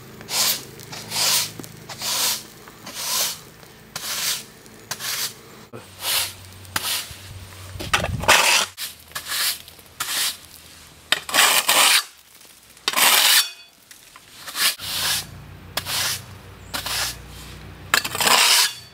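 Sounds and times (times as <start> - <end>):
broom sweeping concrete: 0.0 - 18.9.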